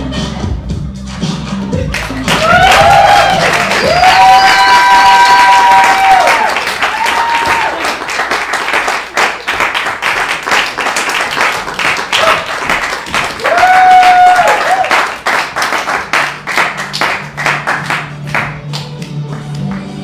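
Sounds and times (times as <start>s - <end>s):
audience applauding: 1.9s - 18.5s.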